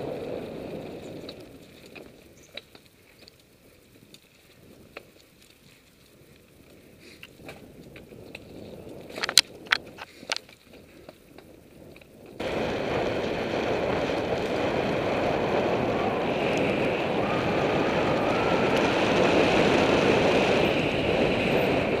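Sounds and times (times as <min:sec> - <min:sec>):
tyres rolling over trail: 0:00.0 - 0:22.0
wind rushing on camera: 0:00.0 - 0:22.0.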